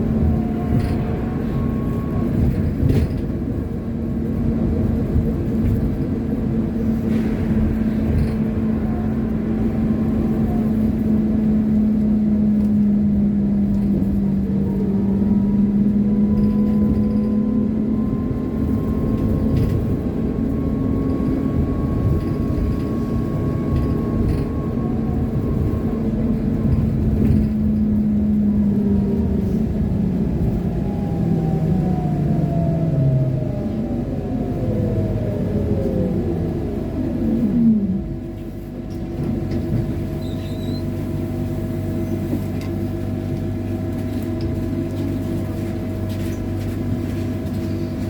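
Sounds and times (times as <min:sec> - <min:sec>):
road rumble: 0:00.0 - 0:48.0.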